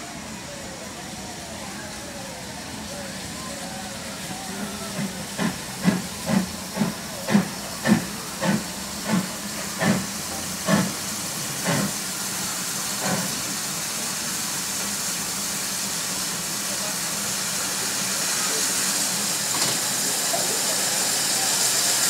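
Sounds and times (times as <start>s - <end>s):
steady steam hiss: 0.0s - 22.0s
steam locomotive chuffing: 0.0s - 22.0s.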